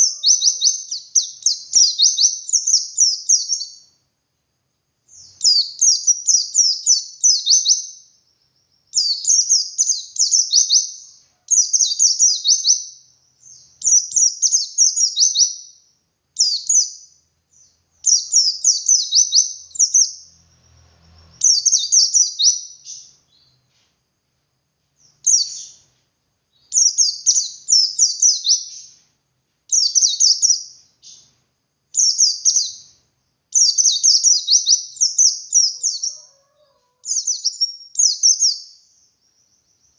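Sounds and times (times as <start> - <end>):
bird rapid high chirping song: 0.0 - 4.0, 5.1 - 23.8, 25.0 - 29.1, 29.7 - 36.4, 37.0 - 39.9.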